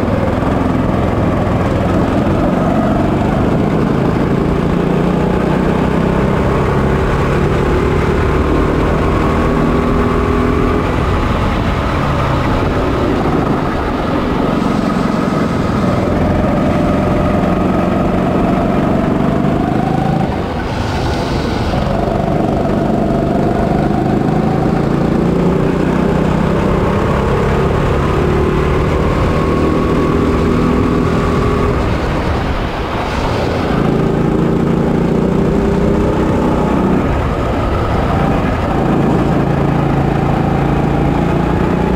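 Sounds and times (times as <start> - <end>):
kart engine under race load: 0.0 - 41.9.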